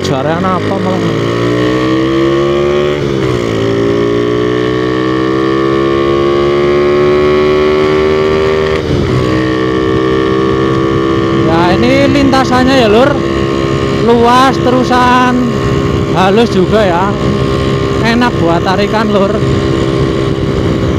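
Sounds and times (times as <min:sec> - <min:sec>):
motorcycle engine accelerating: 0:00.0 - 0:20.9.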